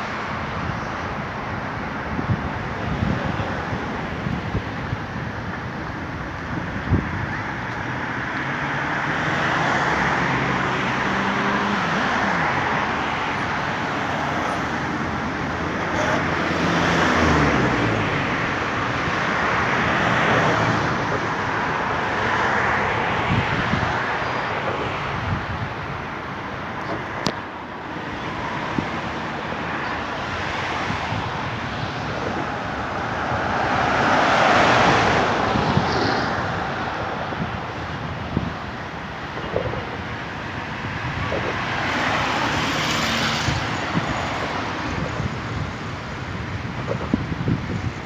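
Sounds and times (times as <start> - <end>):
road traffic: 0.0 - 48.0.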